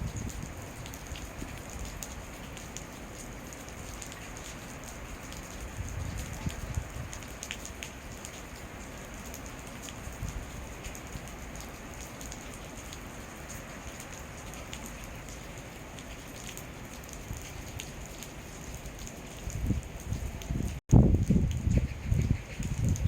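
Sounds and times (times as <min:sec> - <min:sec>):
raindrops ticking on surfaces: 0:00.0 - 0:23.0
steady rain hiss: 0:00.0 - 0:23.0.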